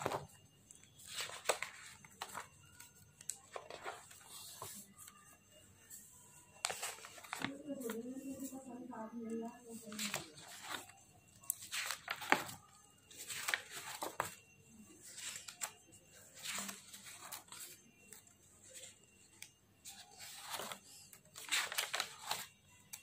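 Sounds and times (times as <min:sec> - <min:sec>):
paper pages rustling: 0:00.0 - 0:05.3, 0:06.6 - 0:08.6, 0:09.7 - 0:14.4, 0:15.0 - 0:23.0.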